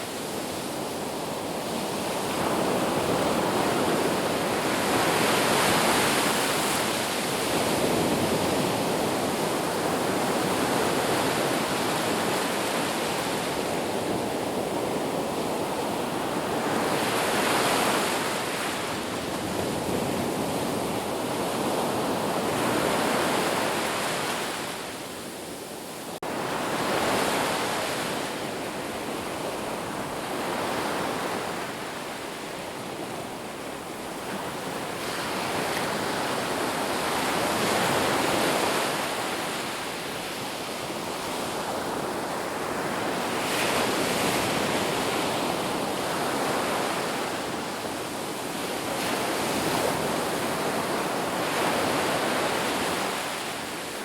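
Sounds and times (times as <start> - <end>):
sea waves breaking on shore: 0.0 - 54.0.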